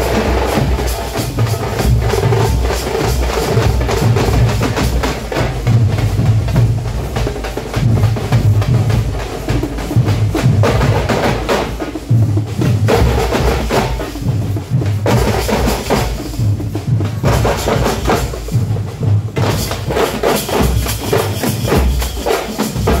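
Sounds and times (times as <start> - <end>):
frame drums beaten with sticks: 0.0 - 23.0.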